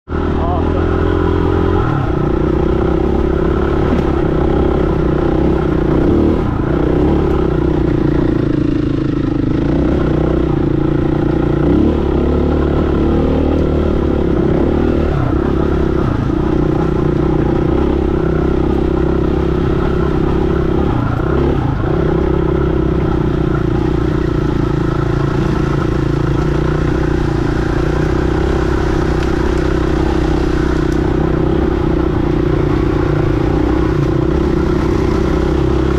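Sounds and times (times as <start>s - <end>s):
dirt bike engine running: 0.1s - 35.9s.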